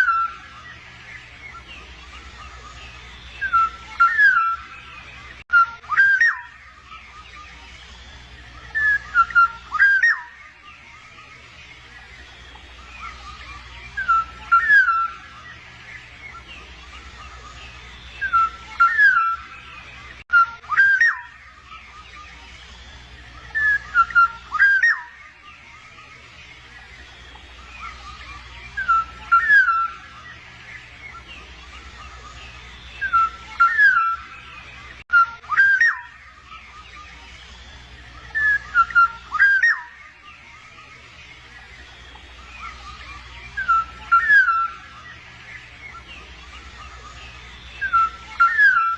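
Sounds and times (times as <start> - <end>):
steady low hum: 0.0 - 5.4, 6.5 - 20.2, 21.3 - 48.9
bird fluty whistled phrases: 0.0 - 48.9.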